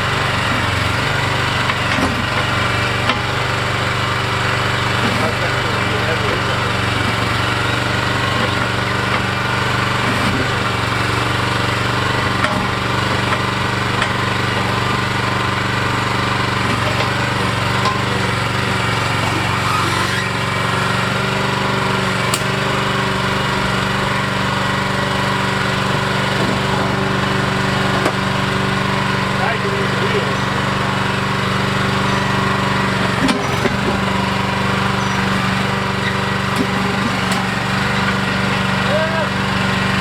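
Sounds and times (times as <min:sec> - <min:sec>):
small gasoline engine running: 0:00.0 - 0:40.0.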